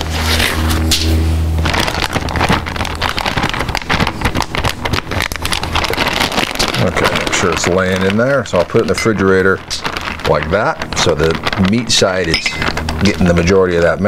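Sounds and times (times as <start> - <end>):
low steady hum: 0.0 - 14.0
thin plastic crinkling: 0.0 - 14.0.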